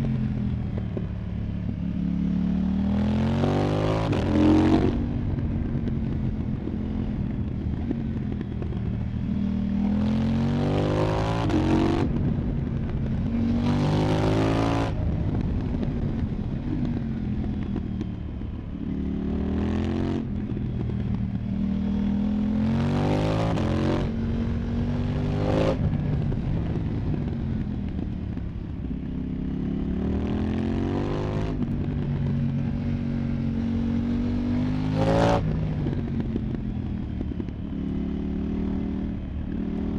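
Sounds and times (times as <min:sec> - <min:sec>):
motorcycle engine accelerating hard: 0:00.0 - 0:39.9.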